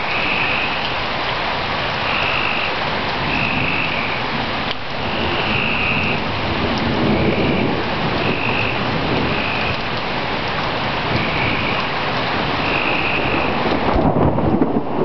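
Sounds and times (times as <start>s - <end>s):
heavy rain: 0.0s - 15.0s
thunder rumble: 2.8s - 15.0s.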